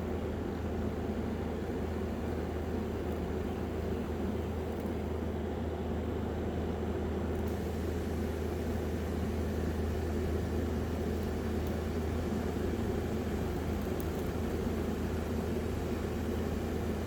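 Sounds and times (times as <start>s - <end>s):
small fan motors humming: 0.0s - 17.0s.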